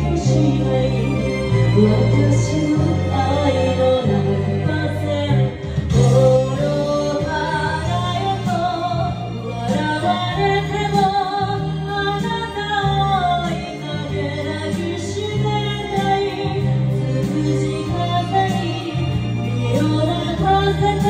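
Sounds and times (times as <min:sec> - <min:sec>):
backing track with held bass: 0:00.0 - 0:21.0
woman singing pop ballad: 0:00.0 - 0:21.0.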